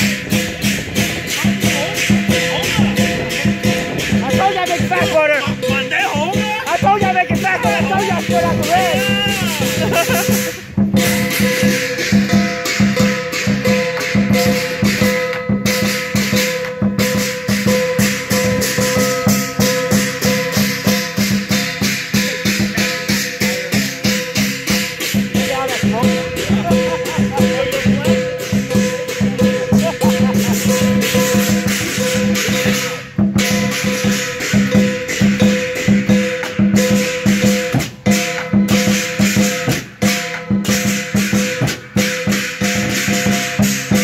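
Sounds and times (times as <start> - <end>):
big drum beating: 0.0 - 44.0
clashing cymbals: 0.0 - 44.0.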